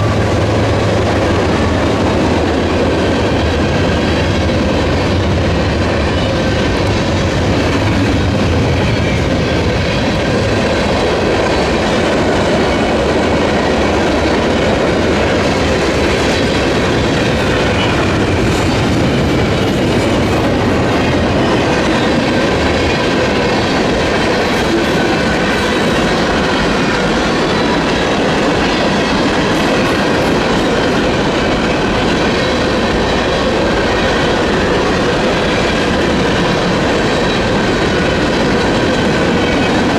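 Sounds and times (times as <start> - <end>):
deep train rumble: 0.0 - 39.9
train wheels clattering over rails: 0.0 - 39.9.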